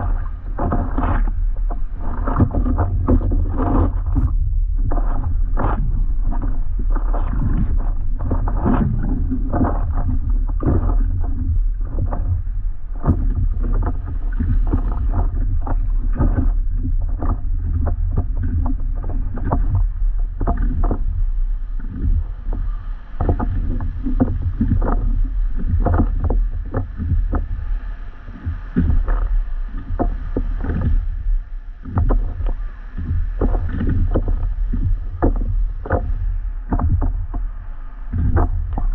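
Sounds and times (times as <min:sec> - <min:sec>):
steady low rumble: 0:00.0 - 0:38.9
water splashing around paddleboard: 0:00.0 - 0:38.9.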